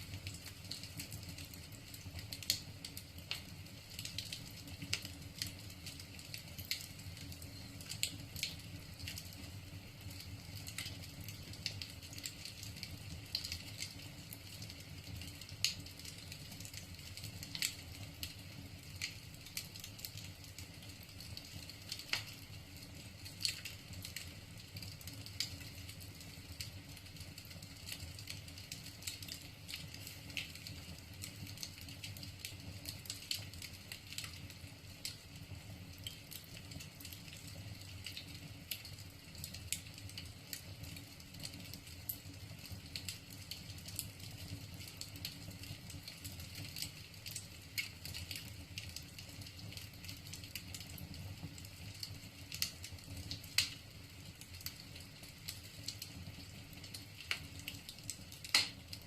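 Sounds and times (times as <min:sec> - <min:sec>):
burning logs popping and snapping: 0:00.0 - 0:59.0
low fire rumble: 0:00.0 - 0:59.0.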